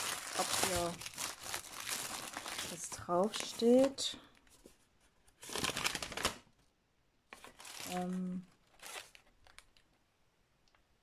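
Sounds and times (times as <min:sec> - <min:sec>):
paper and plastic film crinkling: 0:00.0 - 0:06.5, 0:07.3 - 0:10.0.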